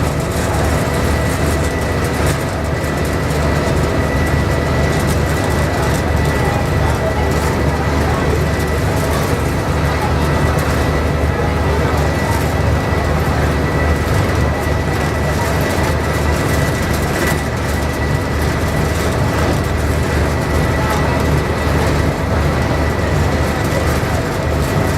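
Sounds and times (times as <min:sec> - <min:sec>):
ferry engine low drone: 0:00.0 - 0:24.9.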